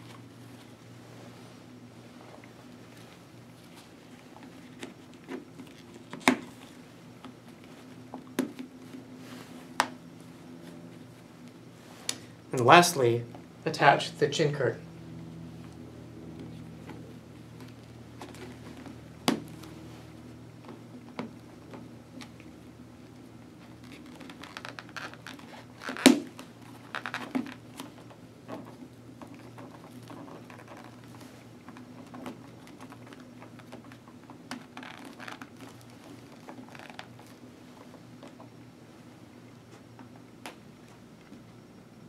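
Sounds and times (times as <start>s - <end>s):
soft rustling: 0.0s - 12.4s, 15.5s - 41.6s
faint hum: 0.0s - 42.0s.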